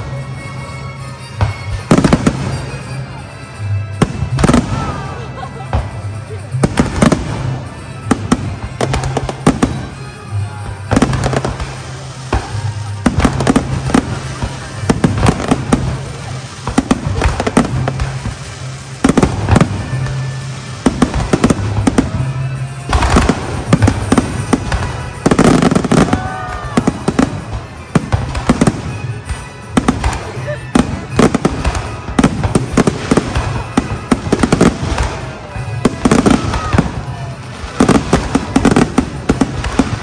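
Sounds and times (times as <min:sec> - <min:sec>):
firework bangs and crackles: 0:00.0 - 0:40.0
firework booms: 0:03.9 - 0:10.0, 0:10.6 - 0:40.0.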